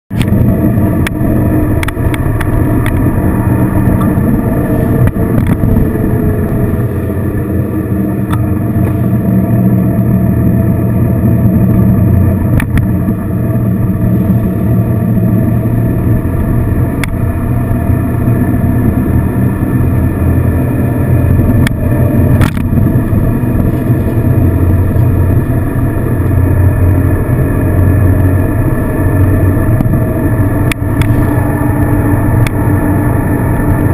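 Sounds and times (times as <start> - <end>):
motorcycle engine cruising: 0.1 - 33.9
wind noise: 0.1 - 33.9.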